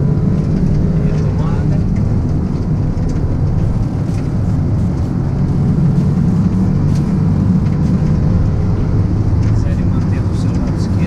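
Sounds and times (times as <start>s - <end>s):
car engine at full throttle: 0.0s - 11.0s
road and wind noise: 0.0s - 11.0s.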